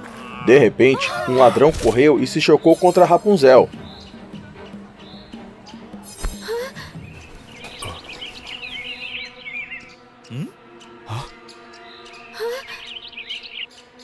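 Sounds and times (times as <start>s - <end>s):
soft background music: 0.2s - 14.0s
birds chirping: 2.4s - 14.0s.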